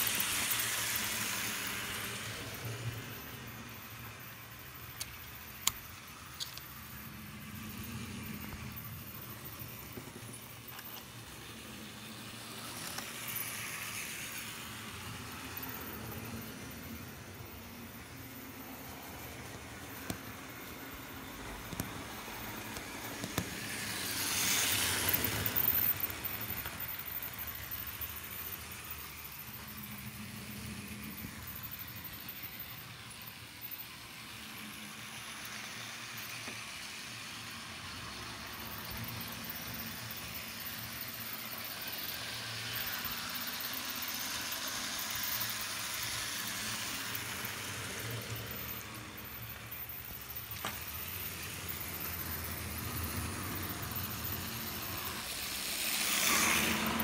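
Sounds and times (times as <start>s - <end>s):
model train whirring on rails: 0.0s - 57.0s.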